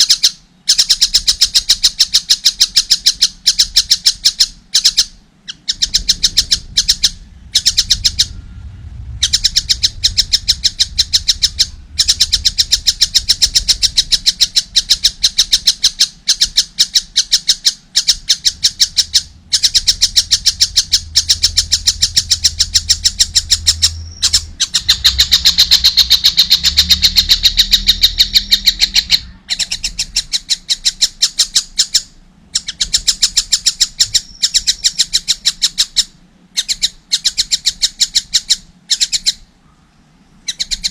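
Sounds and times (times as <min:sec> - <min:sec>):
young kingfisher calling: 0:00.0 - 0:08.4, 0:09.2 - 0:40.9.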